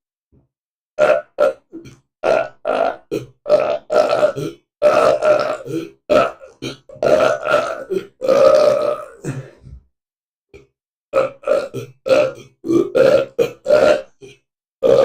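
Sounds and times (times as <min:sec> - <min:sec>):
person burping: 0:01.0 - 0:09.9, 0:10.6 - 0:15.0.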